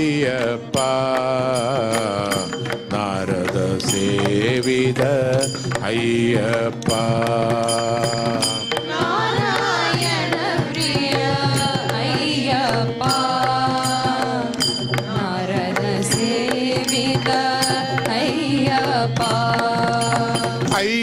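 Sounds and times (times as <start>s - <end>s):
percussion strokes: 0.0s - 21.0s.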